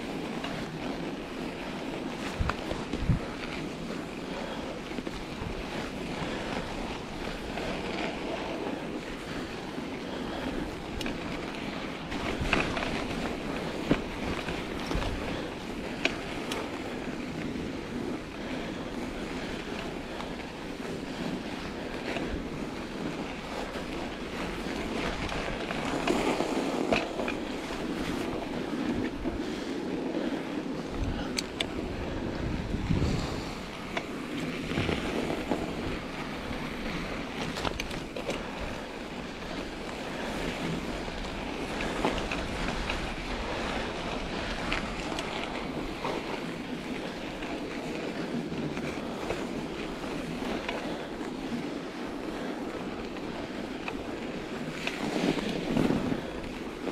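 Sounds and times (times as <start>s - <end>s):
bike tires rushing on snow: 0.0s - 56.9s
wind on microphone: 0.0s - 56.9s.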